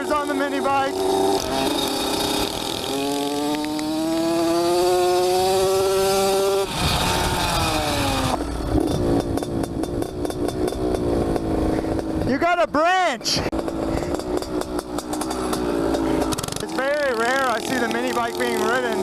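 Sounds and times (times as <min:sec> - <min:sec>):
small motorcycle engine accelerating: 0:00.0 - 0:12.3, 0:13.5 - 0:19.0.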